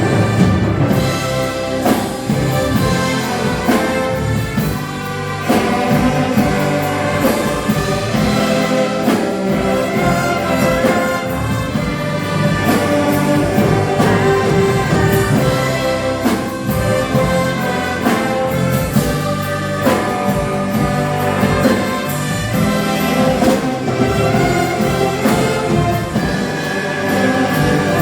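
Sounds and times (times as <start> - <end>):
orchestra brass chords: 0.0 - 28.0.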